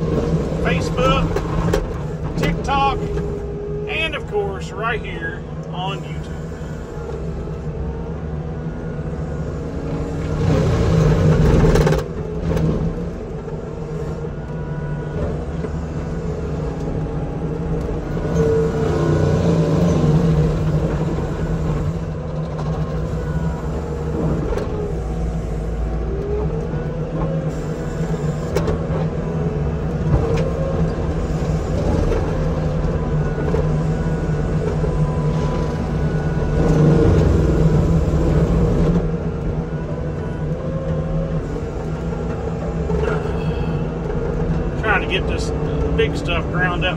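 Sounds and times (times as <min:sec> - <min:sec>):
engine droning under load: 0:00.0 - 0:46.9.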